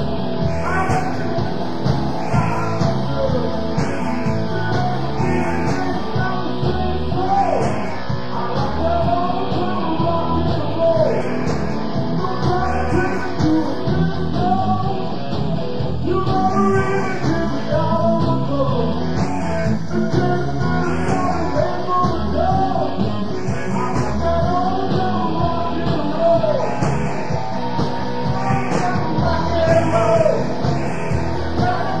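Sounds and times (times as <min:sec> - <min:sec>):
electric guitar: 0:00.0 - 0:32.0
person singing: 0:00.0 - 0:32.0
rock and roll band: 0:00.0 - 0:32.0
steady drum beat: 0:00.0 - 0:32.0.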